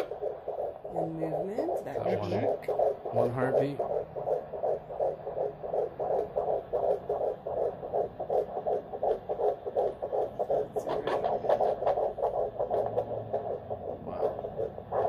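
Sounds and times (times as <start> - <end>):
fetal heartbeat whooshing pulse: 0.0 - 15.0
scratchy noise: 0.0 - 15.0.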